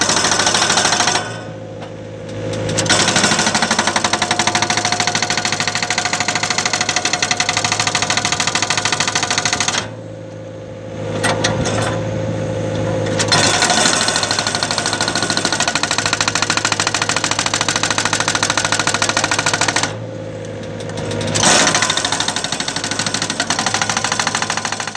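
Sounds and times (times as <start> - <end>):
hydraulic breaker hammering rock: 0.0 - 1.6, 2.6 - 10.0, 13.2 - 20.0, 20.7 - 24.9
excavator engine running: 0.0 - 24.9.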